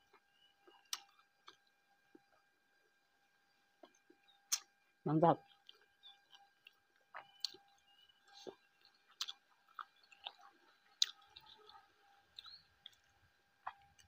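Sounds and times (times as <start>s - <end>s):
person chewing food: 0.0s - 3.0s, 3.7s - 4.7s, 5.4s - 14.0s.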